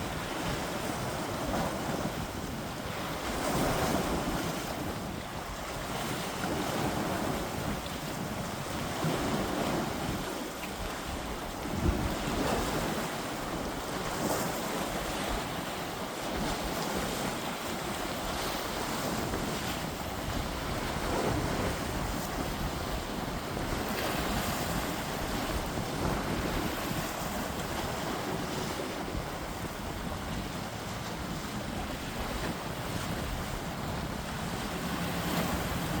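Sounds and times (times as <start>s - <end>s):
waves washing against rocks: 0.0s - 36.0s
wind buffeting microphone: 0.0s - 36.0s.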